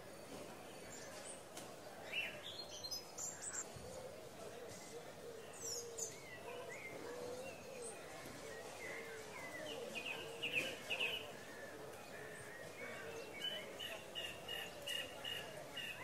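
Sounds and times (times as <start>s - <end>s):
murmur of distant voices: 0.0s - 16.0s.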